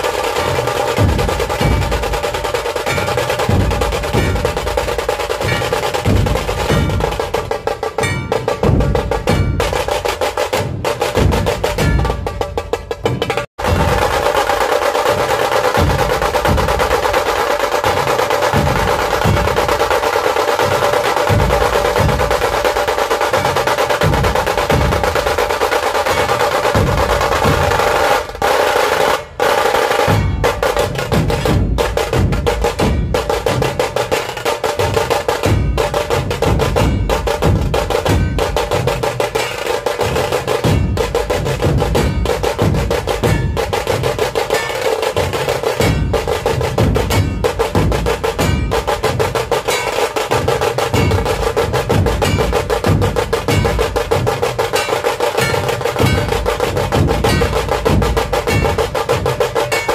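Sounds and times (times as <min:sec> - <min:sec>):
large barrel drums beating: 0:00.0 - 0:59.9
snare drums fast rolls: 0:00.0 - 0:59.9.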